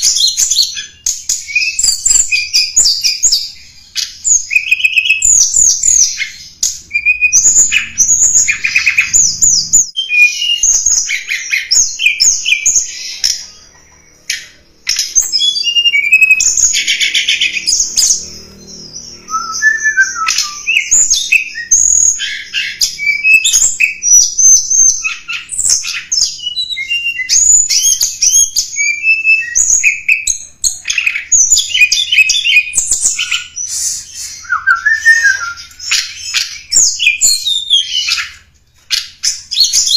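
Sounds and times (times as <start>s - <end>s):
bird twittering chirps and whistles: 0.0s - 39.9s.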